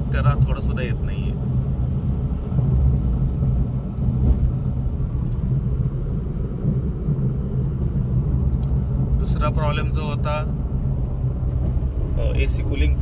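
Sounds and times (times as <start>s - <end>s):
low tyre rumble: 0.0s - 13.0s.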